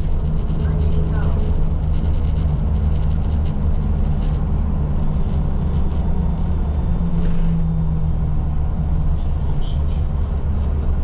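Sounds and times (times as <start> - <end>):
vehicle rumble from inside: 0.0 - 11.0.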